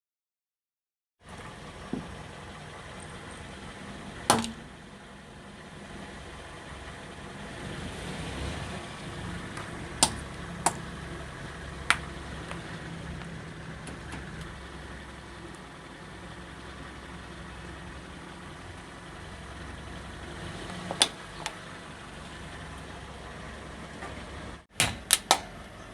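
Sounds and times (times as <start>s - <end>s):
car engine running slowly: 1.2s - 25.9s.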